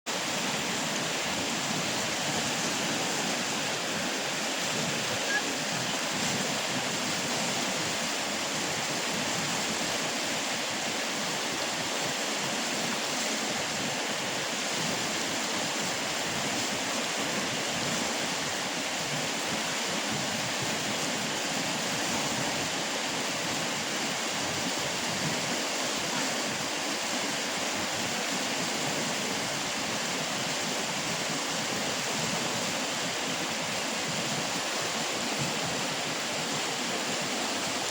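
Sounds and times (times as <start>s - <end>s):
river water rushing over rocks: 0.1s - 37.9s.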